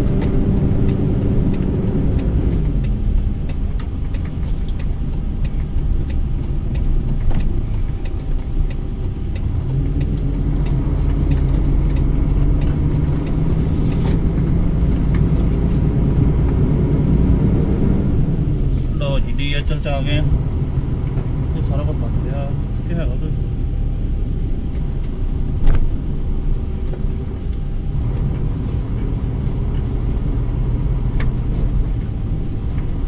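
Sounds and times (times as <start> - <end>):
heavy truck engine running: 0.0 - 33.0.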